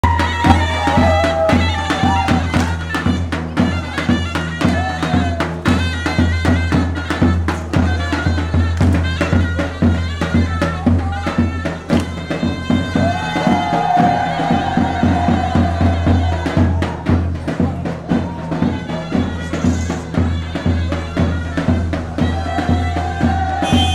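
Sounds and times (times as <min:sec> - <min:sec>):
bass drum beating dance rhythm: 0:00.0 - 0:23.9
shrill reed wind instrument melody: 0:00.0 - 0:23.9.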